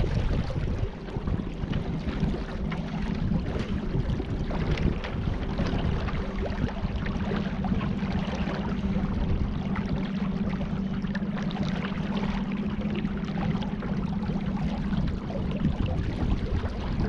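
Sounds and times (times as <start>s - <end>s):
steady low hum: 0.0s - 17.0s
water lapping and splashing: 0.0s - 17.0s.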